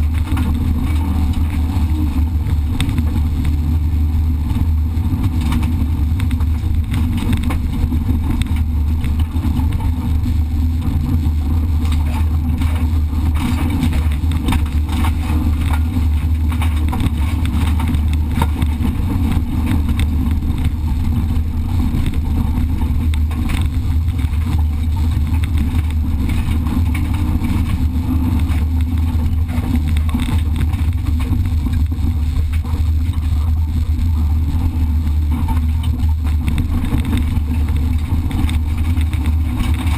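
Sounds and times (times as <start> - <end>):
clicks and knocks from rough surface: 0.0 - 39.9
race car engine rumble: 0.0 - 39.9.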